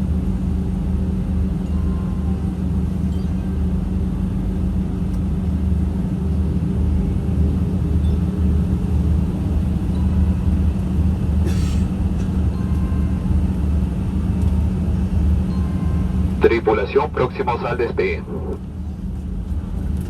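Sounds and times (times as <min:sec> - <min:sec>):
jet engines idling hum: 0:00.0 - 0:20.0.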